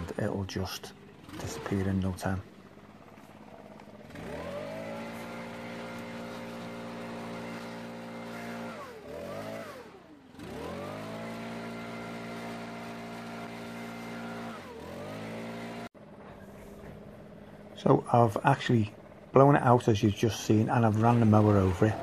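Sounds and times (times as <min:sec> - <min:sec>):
leaf blower engine revving: 0:00.0 - 0:22.0.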